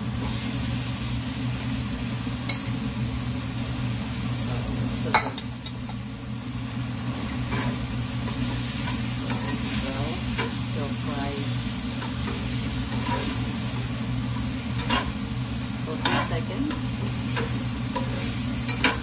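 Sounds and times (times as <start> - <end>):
food sizzling in frying pan: 0.0 - 19.0.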